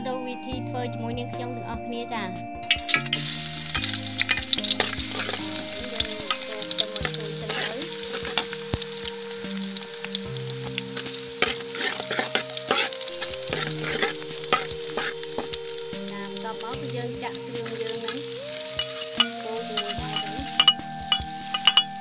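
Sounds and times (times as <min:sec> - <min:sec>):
garlic sizzling in oil: 0:02.7 - 0:22.0
spatula scraping wok: 0:02.7 - 0:22.0.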